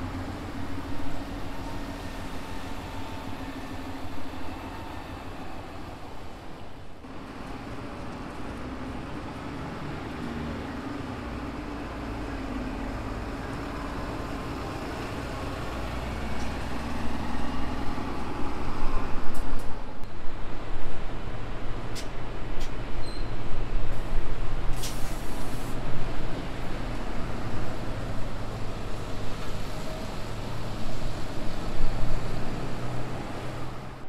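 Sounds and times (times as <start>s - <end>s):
bus engine droning: 0.0s - 34.0s.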